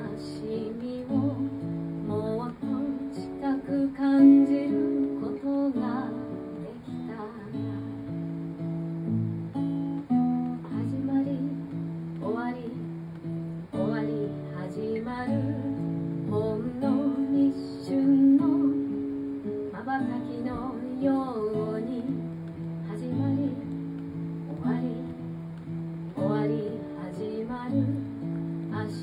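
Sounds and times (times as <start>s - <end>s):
woman singing: 0.0s - 8.7s, 9.5s - 29.0s
acoustic guitar strumming: 0.0s - 29.0s.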